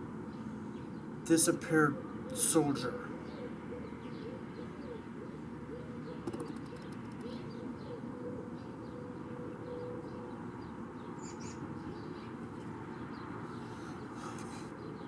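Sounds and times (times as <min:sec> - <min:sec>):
steady low background noise: 0:00.0 - 0:15.0
small birds chirping: 0:00.1 - 0:15.0.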